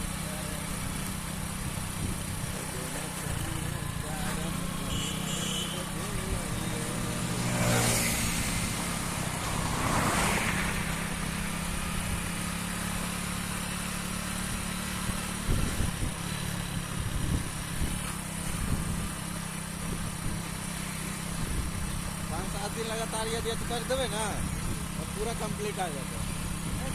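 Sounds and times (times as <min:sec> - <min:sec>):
motorcycle engine humming: 0:00.0 - 0:26.9.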